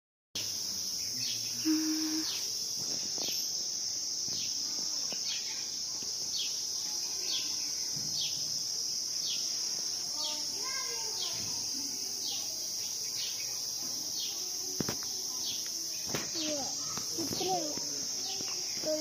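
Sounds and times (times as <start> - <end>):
insects chirring: 0.4 - 19.0.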